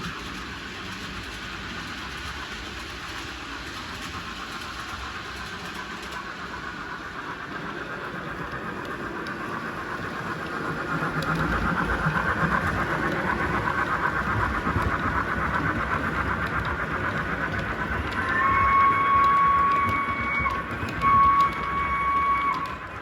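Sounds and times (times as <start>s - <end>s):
model train whirring on track: 0.0s - 23.0s.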